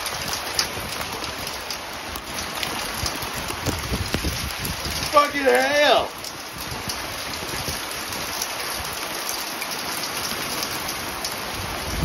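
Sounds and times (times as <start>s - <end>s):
raindrops ticking: 0.0s - 12.0s
steady rain hissing: 0.0s - 12.0s.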